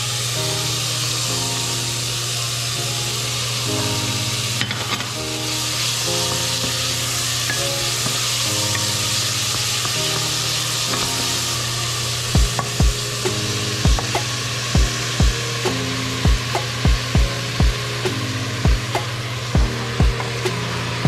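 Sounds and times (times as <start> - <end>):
soft background music: 0.0 - 21.0
tomatoes sizzling in a pot: 0.0 - 21.0.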